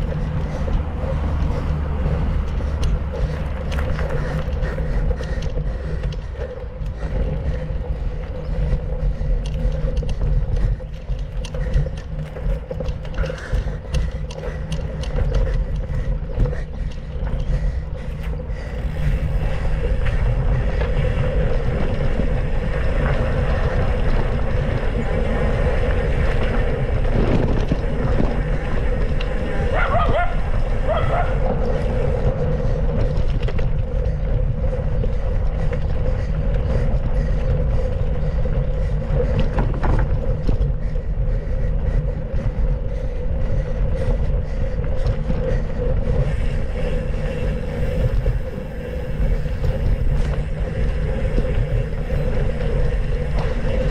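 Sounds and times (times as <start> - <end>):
bike frame rattling and clicking: 0.0 - 53.9
wind rushing over microphone: 0.0 - 53.9.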